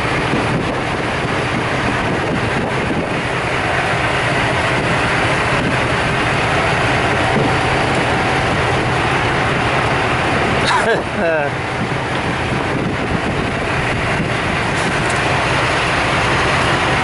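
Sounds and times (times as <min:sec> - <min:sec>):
engine humming: 0:00.0 - 0:17.0
wind buffeting microphone: 0:00.0 - 0:17.0.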